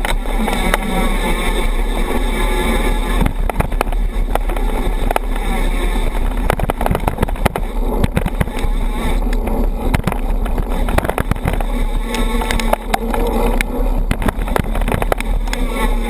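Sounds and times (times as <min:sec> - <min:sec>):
bike rattling and knocking: 0:00.0 - 0:16.0
wind rumble on microphone: 0:00.0 - 0:16.0.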